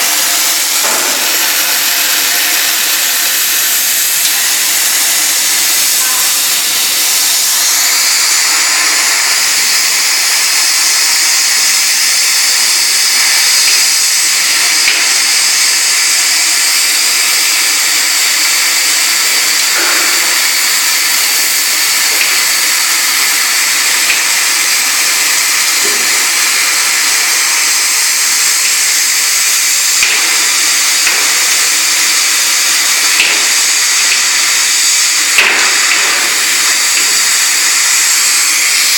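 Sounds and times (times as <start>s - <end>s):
machine running with high hiss: 0.0s - 38.9s.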